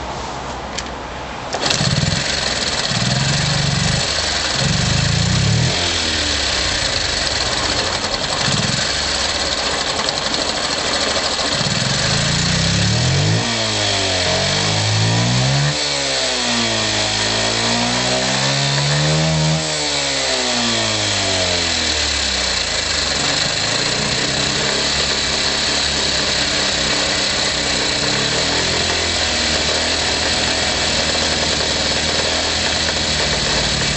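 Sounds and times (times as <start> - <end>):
motorcycle engine idling and revving: 1.6 - 33.9.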